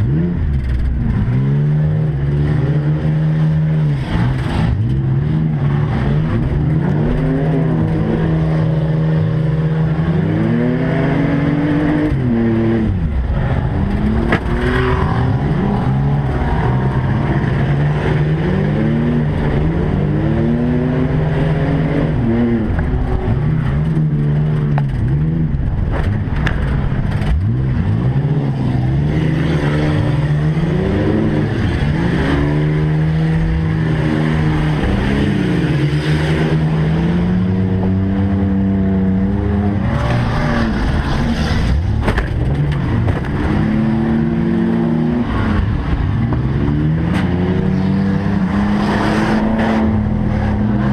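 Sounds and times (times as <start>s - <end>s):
racing truck engines revving: 0.0s - 50.9s.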